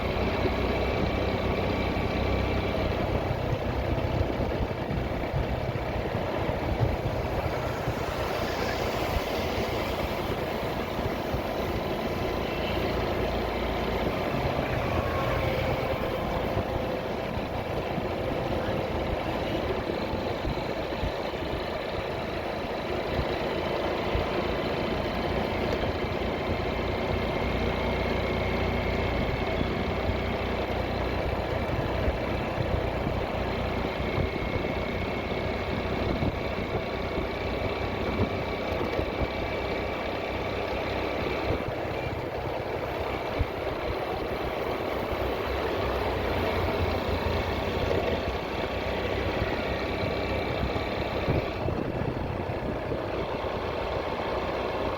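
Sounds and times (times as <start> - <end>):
motorcycle engine running: 0.0 - 54.9
road and wind rushing noise: 0.0 - 54.9.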